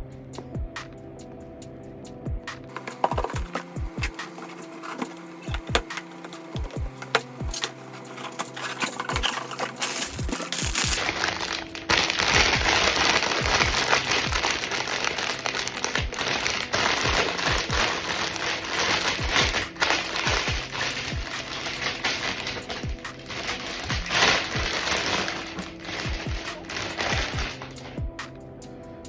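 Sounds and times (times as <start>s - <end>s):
music with low beat: 0.0s - 1.5s, 2.1s - 28.8s
packaging crinkling: 2.7s - 28.0s.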